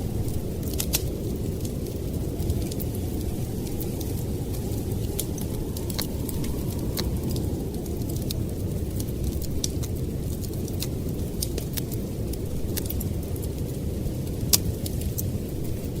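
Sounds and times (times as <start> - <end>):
storm wind rumbling: 0.0 - 16.0
wood fire crackling: 0.0 - 16.0.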